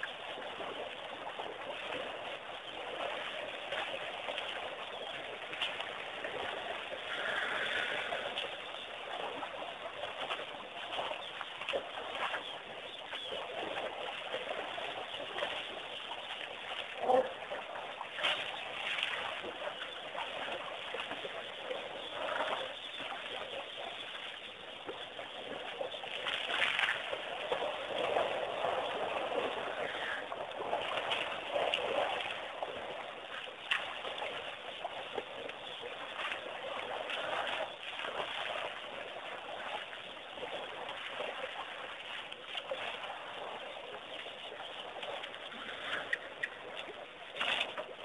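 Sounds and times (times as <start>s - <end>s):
faint crackles: 0.0s - 48.0s
mud and water sloshing: 0.0s - 48.0s.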